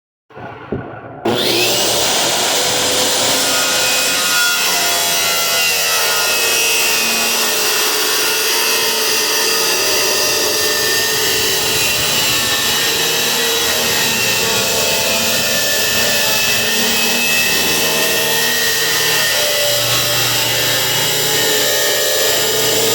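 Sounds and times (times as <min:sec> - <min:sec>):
power saw cutting wood: 0:01.2 - 0:22.9.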